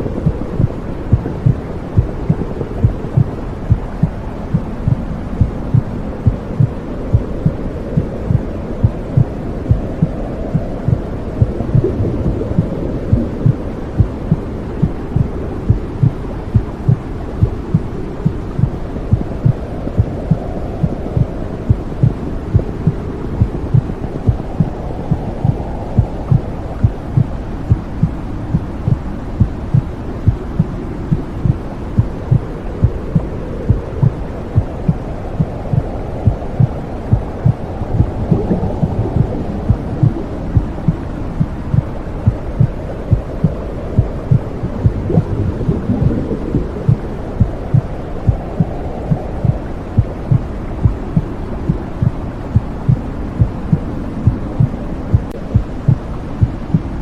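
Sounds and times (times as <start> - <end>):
muffled whooshing rush: 0.0 - 57.0
heartbeat thumping: 0.1 - 56.9.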